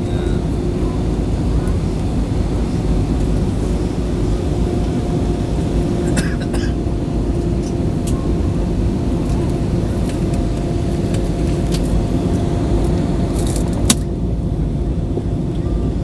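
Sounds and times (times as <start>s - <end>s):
jet engines and rushing air: 0.0s - 16.0s.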